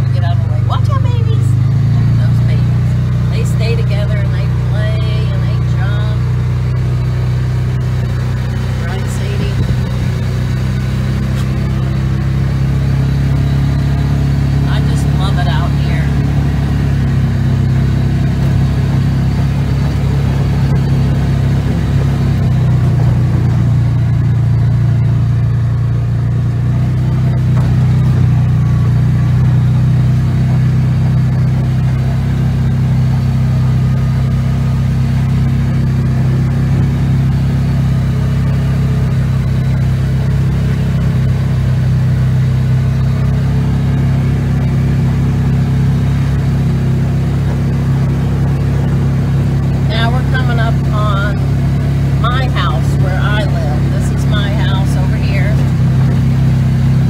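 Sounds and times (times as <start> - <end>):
utility vehicle engine humming: 0.0 - 57.0.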